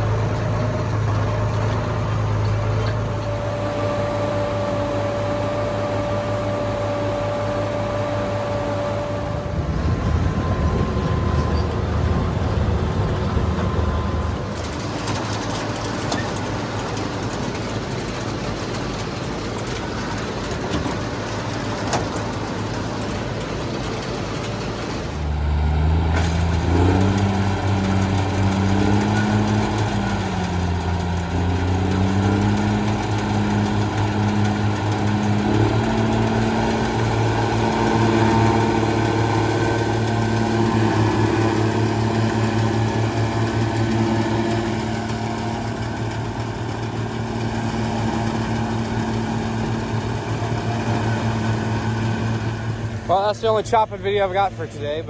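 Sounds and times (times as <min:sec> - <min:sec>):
louder engine under changing load: 0:00.0 - 0:55.0
tractor engine drone: 0:00.0 - 0:55.0.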